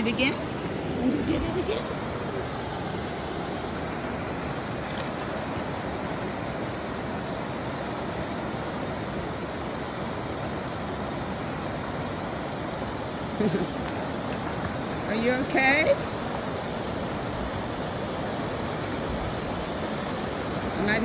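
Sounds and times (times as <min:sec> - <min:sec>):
river flowing: 0:00.0 - 0:21.0.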